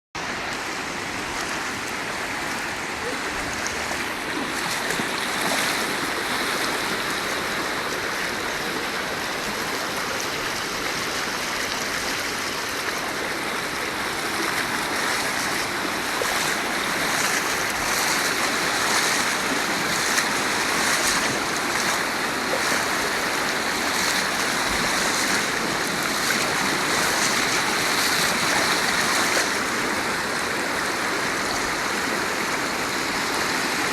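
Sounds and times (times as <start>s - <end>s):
floodwater rushing: 0.2s - 33.9s.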